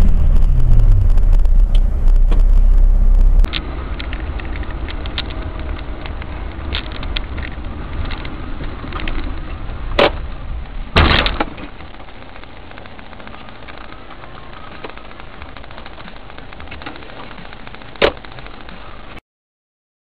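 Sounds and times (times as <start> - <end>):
in-car road rumble: 0.0 - 19.2
small clicks and rattles: 0.0 - 19.2.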